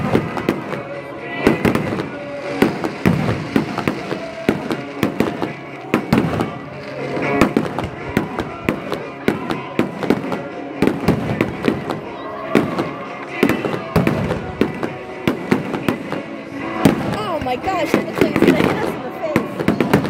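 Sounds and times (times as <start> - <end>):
fireworks bangs: 0.0 - 20.0
music playing: 0.0 - 20.0.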